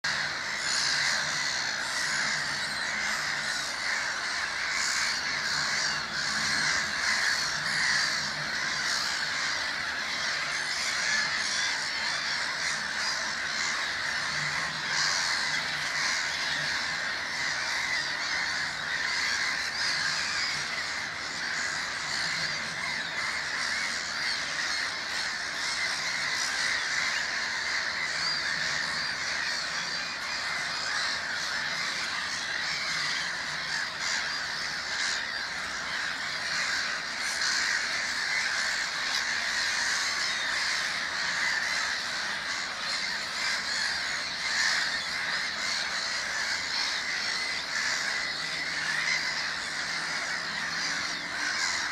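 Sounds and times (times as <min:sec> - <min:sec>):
gulls calling: 0:00.0 - 0:51.9.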